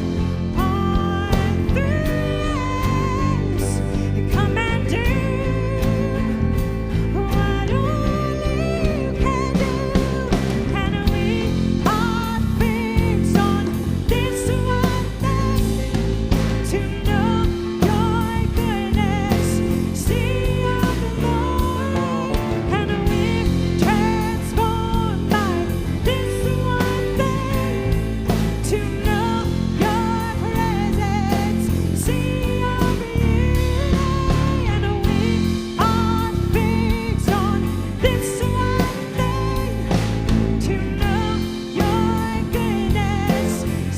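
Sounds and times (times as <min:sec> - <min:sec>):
drum kit beat: 0:00.0 - 0:43.9
guitar: 0:00.0 - 0:43.9
person singing: 0:00.0 - 0:43.9.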